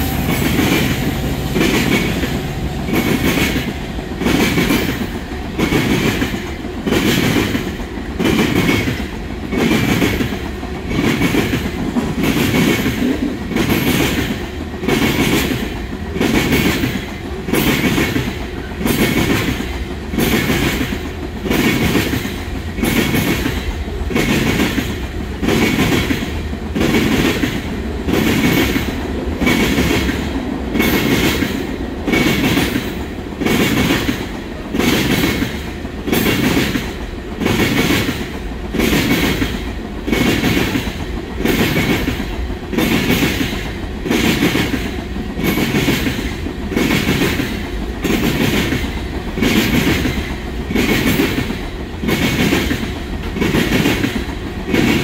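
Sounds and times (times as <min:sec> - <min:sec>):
train wheels clacking over rails: 0:00.0 - 0:55.0.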